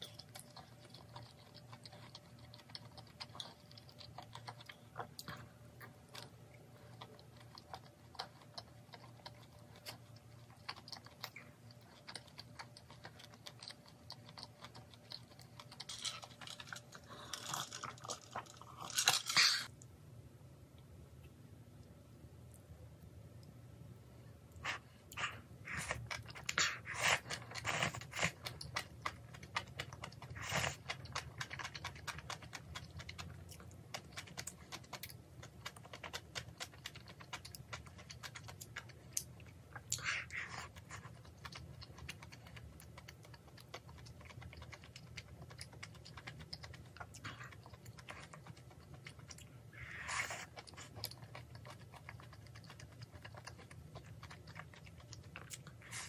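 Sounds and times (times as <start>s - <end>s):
person chewing food: 0.0s - 19.8s, 24.5s - 56.0s.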